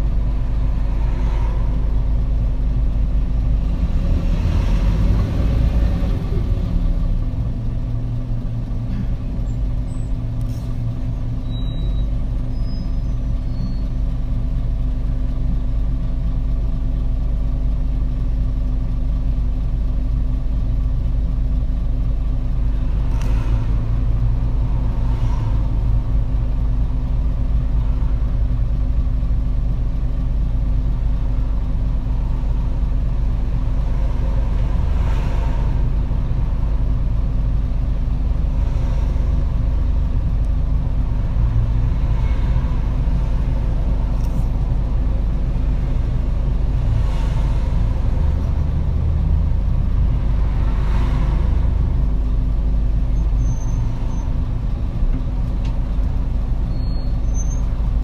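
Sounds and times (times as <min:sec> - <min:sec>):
diesel bus engine drone: 0:00.0 - 0:58.0.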